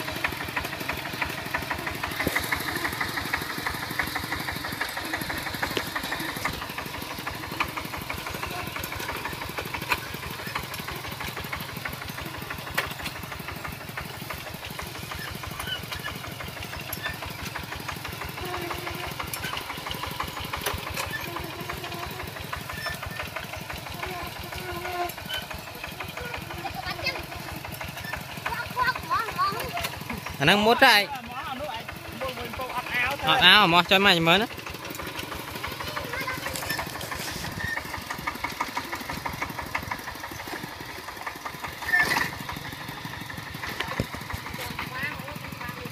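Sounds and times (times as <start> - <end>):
diesel tractor engine chugging: 0.0 - 45.9.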